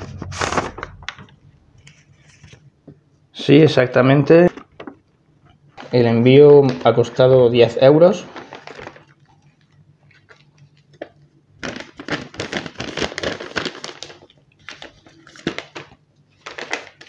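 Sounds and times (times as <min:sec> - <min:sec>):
packaging crinkling and rustling: 0:00.0 - 0:02.8, 0:04.3 - 0:17.0.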